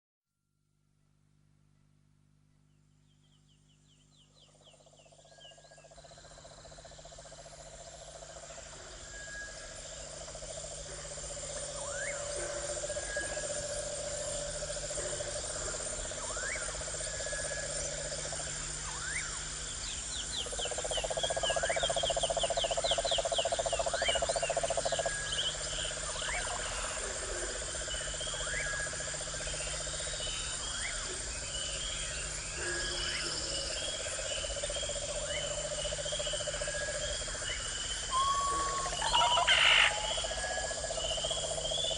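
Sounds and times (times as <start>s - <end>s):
low pulsing frog trills: 3.2s - 41.9s.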